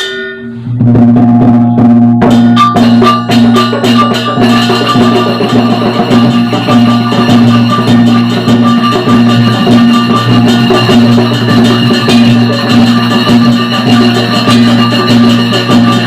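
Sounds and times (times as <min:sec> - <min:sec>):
gamelan ensemble playing: 0:02.3 - 0:16.0.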